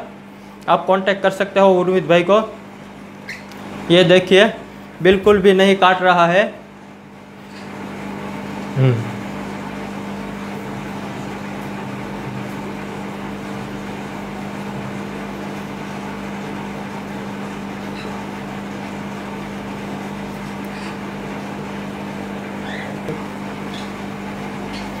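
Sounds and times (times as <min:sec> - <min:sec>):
electrical machine hum: 0:00.0 - 0:25.0.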